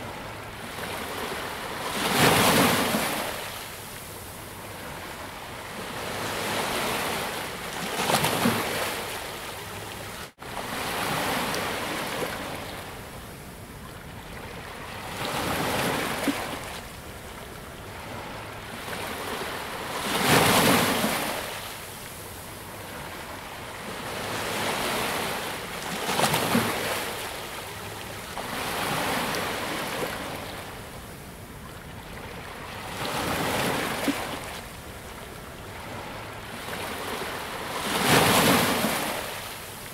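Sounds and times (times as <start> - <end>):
waves breaking on beach: 0.0 - 13.1, 14.3 - 39.9.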